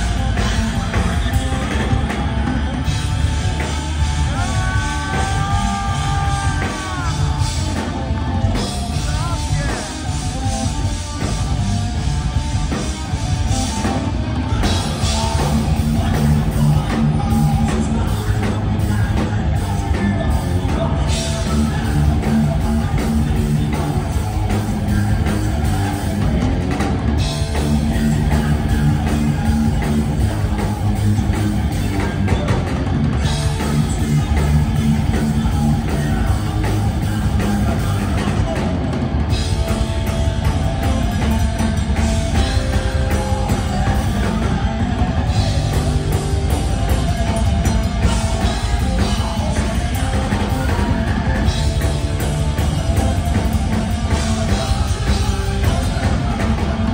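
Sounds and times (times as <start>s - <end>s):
thrash metal band playing live: 0.0s - 56.9s.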